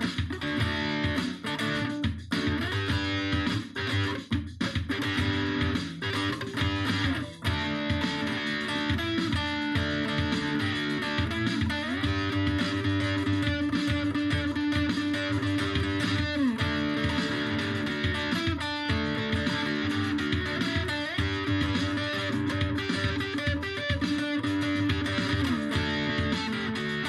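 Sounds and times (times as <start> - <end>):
guitar background music: 0.0 - 27.0.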